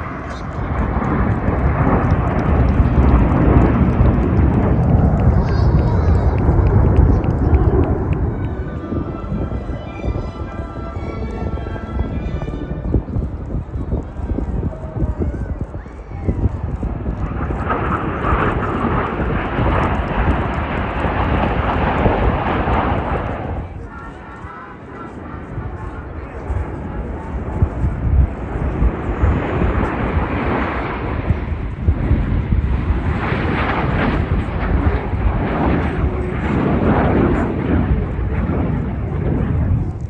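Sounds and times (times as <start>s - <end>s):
aircraft engine rushing: 0.0s - 40.0s.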